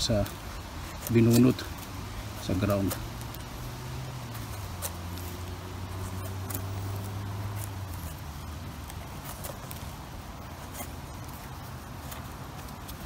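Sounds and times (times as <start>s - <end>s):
knife scraping soil off mushroom: 0.0s - 13.0s.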